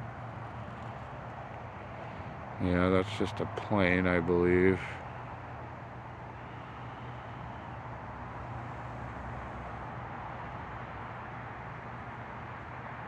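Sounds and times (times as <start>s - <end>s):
distant aircraft rumble overhead: 0.0s - 13.0s.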